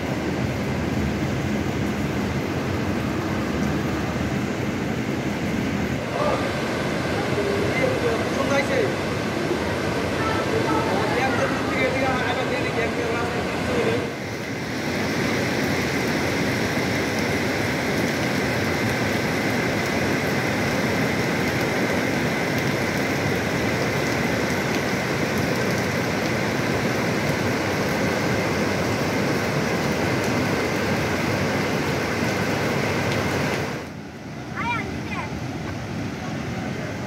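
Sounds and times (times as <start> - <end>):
river torrent rushing: 0.0 - 37.0.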